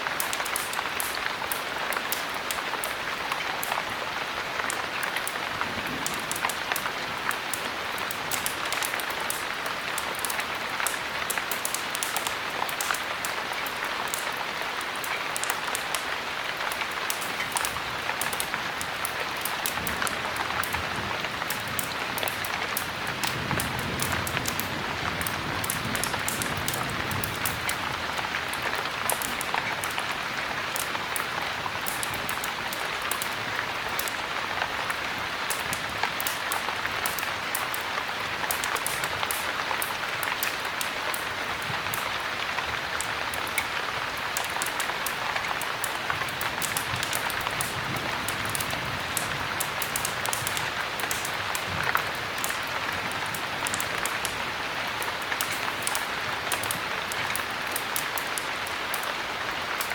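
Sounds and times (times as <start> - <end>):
heavy rain: 0.0 - 59.9
wood fire crackling: 0.0 - 59.9.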